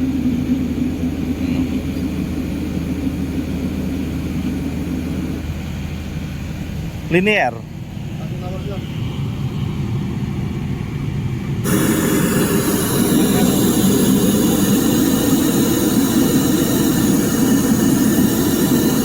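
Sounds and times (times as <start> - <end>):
heavy engine rumbling: 0.0 - 19.0.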